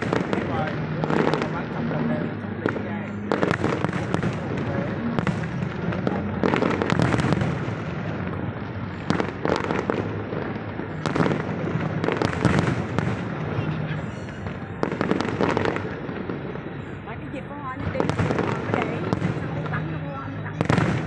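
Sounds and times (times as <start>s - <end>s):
fireworks bangs: 0.0s - 21.0s
fireworks crackle and rumble: 0.0s - 21.0s.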